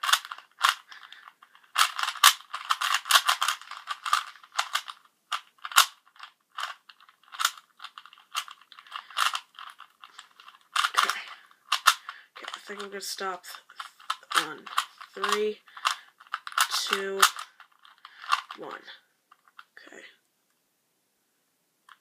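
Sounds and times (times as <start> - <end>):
puzzle cube layers clicking: 0.0 - 19.7.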